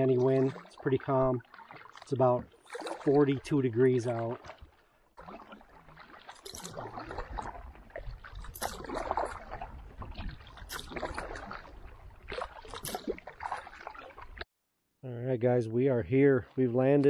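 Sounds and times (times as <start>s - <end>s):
paddle strokes splashing: 0.0s - 14.5s
water swirling: 0.0s - 14.5s.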